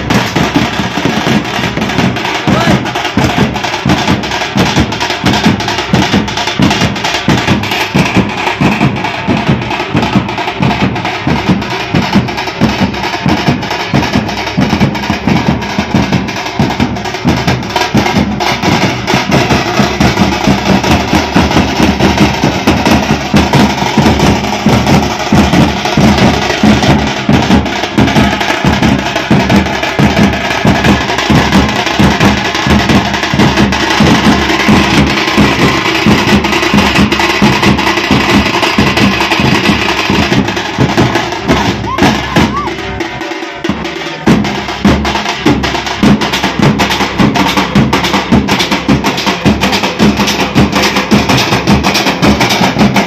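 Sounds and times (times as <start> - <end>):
drum band playing fast rhythm: 0.0 - 53.0.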